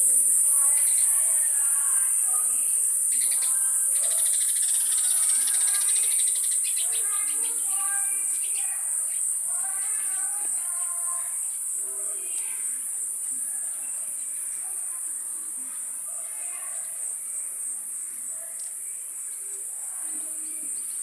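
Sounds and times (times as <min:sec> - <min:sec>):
faint distant voices: 0:00.0 - 0:21.0
insects trilling: 0:00.0 - 0:21.0.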